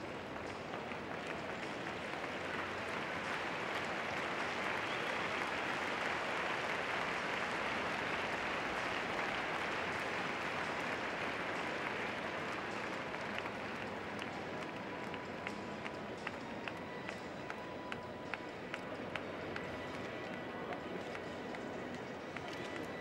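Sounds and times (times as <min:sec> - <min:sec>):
crowd applauding: 0:00.0 - 0:23.0.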